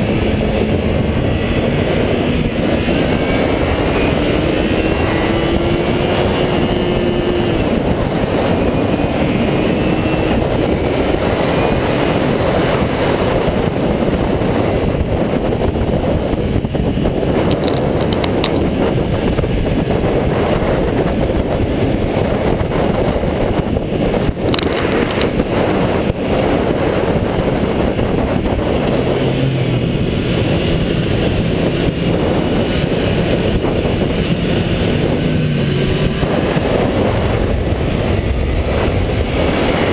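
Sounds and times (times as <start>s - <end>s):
motorcycle engine at high revs: 0.0s - 39.9s
wind rushing over microphone: 0.0s - 39.9s.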